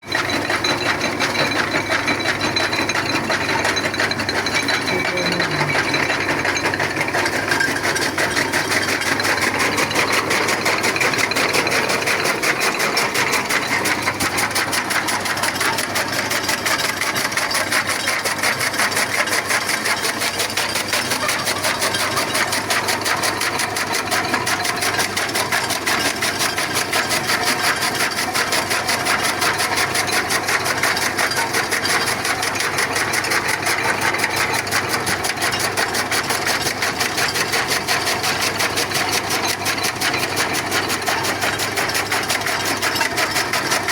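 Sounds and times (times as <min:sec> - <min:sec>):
machine running with fast pulses: 0:00.0 - 0:43.9.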